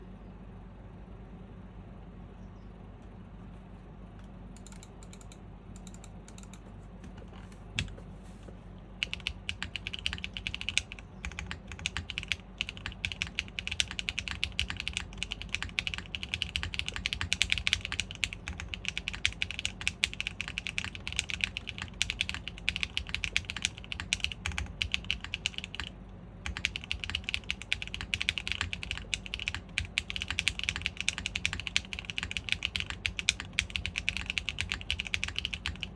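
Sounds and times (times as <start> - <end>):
mechanical keyboard typing: 4.6 - 6.7, 9.0 - 35.9.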